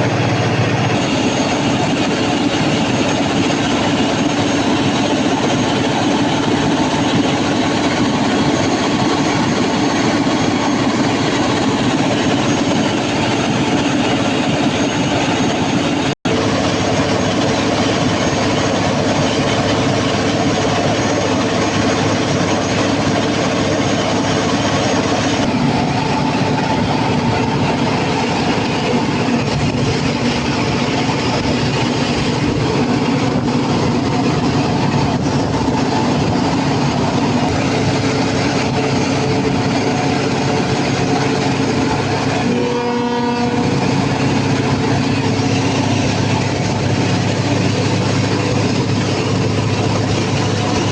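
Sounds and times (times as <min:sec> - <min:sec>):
diesel generator engine droning: 0:00.0 - 0:50.9.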